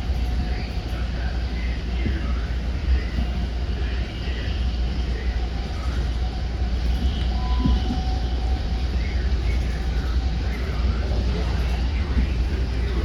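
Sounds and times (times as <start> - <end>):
faint voices: 0.0 - 13.0
train wheels rumbling on track: 0.0 - 13.0.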